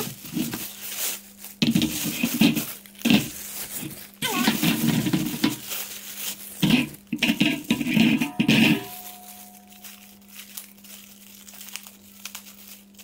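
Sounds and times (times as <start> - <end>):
plastic bag crinkling: 0.0 - 13.0
wire basket clinking: 0.0 - 13.0.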